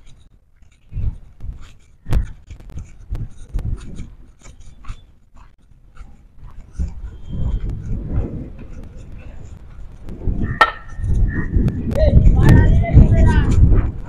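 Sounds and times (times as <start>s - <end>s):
device rubbing and scraping: 0.0s - 14.0s
footsteps on pavement: 0.0s - 14.0s.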